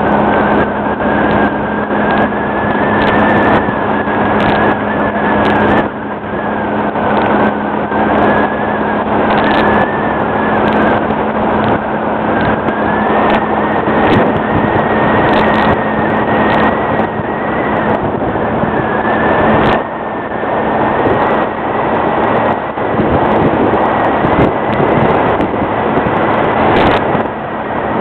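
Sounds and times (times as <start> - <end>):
rush of wind and water: 0.0 - 28.0
speed boat engine whine: 0.0 - 28.0.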